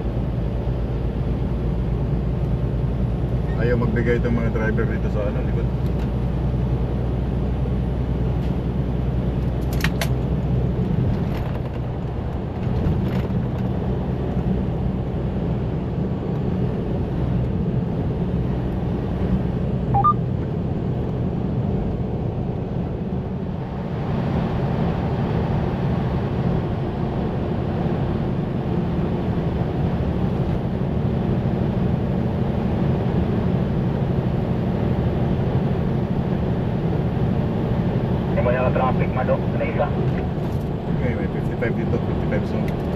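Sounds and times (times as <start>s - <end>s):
truck engine and road noise in cab: 0.0s - 42.9s.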